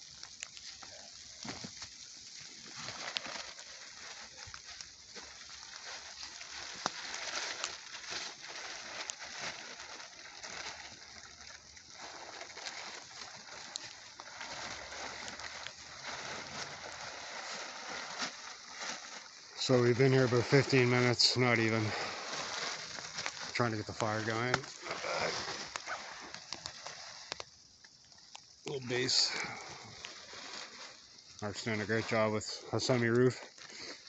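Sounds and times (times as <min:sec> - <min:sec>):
campfire hissing and crackling: 0:00.0 - 0:34.0.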